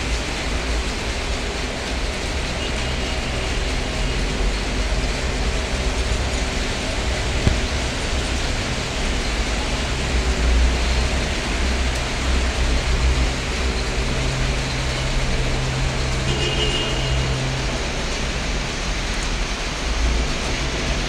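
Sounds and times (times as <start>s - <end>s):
rain on wet street: 0.0s - 21.0s
vehicles driving through water: 0.0s - 21.0s.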